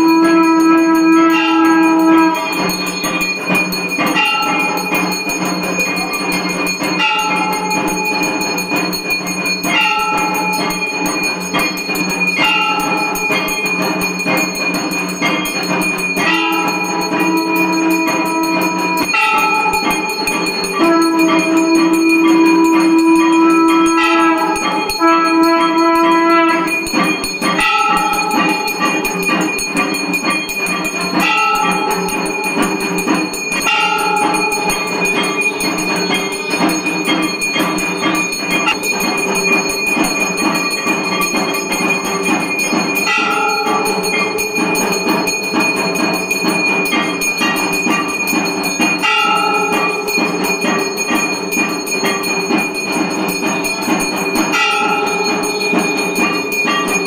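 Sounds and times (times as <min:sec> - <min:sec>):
deep bell stroke: 0:00.0 - 0:57.0
hand bell jangling: 0:00.0 - 0:57.0.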